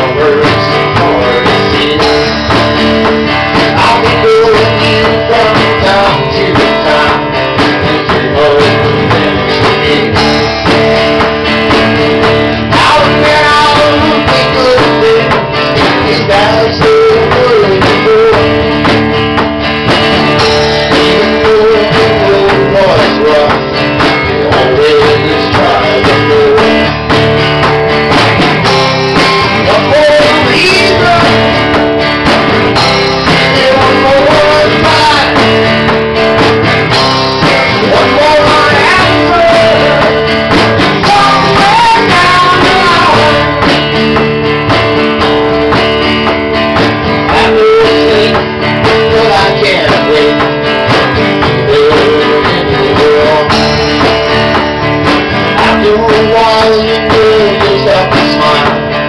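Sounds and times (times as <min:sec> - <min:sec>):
acoustic guitar strumming: 0:00.0 - 0:59.0
band playing live: 0:00.0 - 0:59.0
drum kit: 0:00.0 - 0:59.0
electric bass: 0:00.0 - 0:59.0
man singing: 0:00.0 - 0:59.0.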